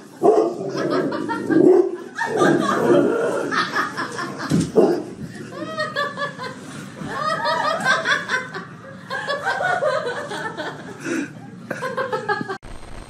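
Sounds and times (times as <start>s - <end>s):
person laughing hard: 0.6s - 4.5s, 5.3s - 12.6s.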